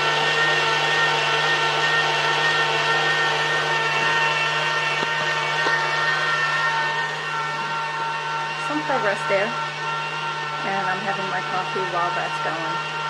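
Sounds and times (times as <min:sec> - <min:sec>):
stand mixer whining: 0:00.0 - 0:13.0.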